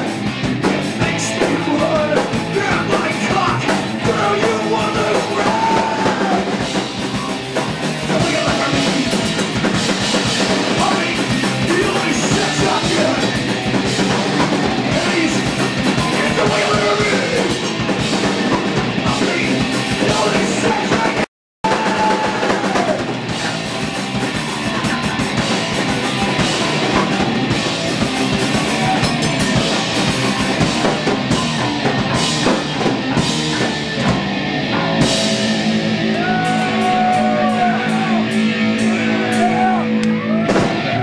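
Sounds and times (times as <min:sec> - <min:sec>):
distorted electric guitar: 0:00.0 - 0:41.0
pounding drum kit: 0:00.0 - 0:41.0
punk rock band playing: 0:00.0 - 0:41.0.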